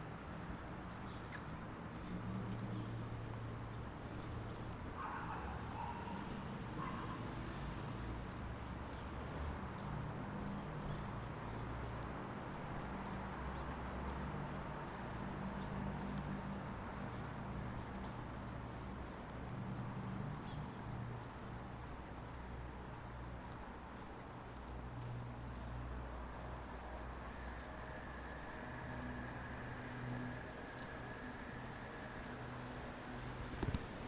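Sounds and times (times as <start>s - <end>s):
railway station noise: 0.0s - 34.0s.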